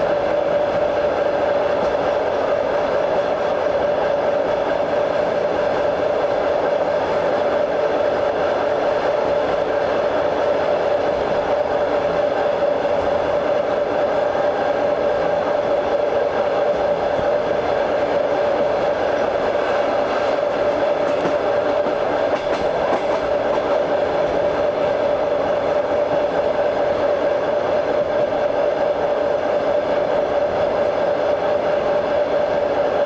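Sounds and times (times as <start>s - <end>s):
train wheels on rails: 0.0s - 33.0s.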